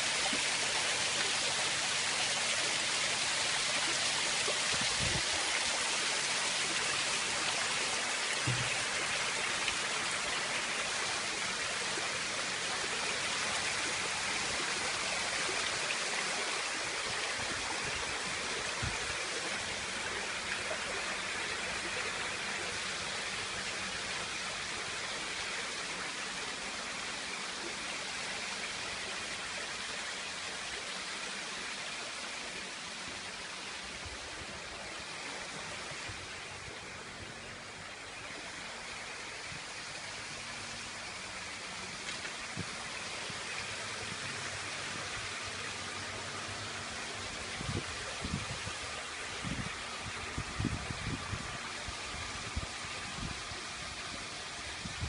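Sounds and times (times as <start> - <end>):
water pouring over waterfall: 0.0 - 55.0.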